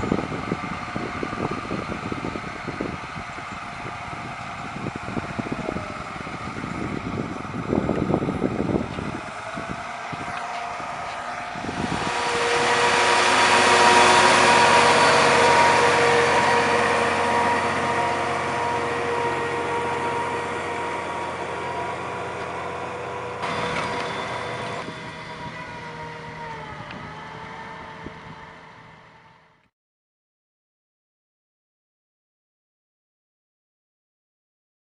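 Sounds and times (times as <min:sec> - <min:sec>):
tractor engine under load: 0:00.0 - 0:29.6.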